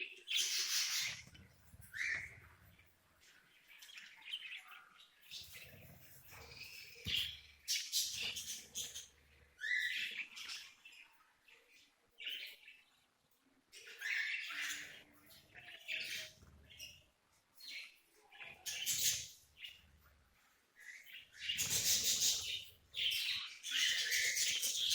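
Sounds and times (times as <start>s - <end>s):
budgerigars chirping and chattering: 0.0s - 24.9s.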